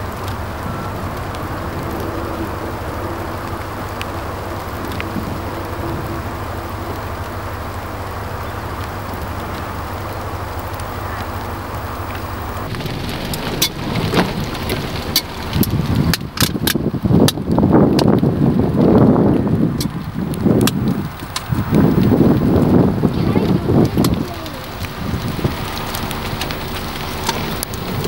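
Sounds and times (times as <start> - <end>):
raindrops clicking on microphone: 0.0 - 28.0
wind gusts buffeting microphone: 0.0 - 28.0.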